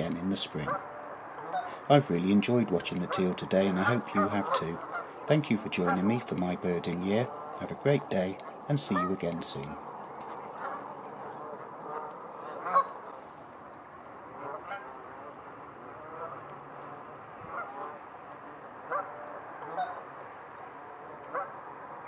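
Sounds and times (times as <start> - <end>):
steady background hiss: 0.0 - 22.0
waterfowl calling: 0.0 - 22.0.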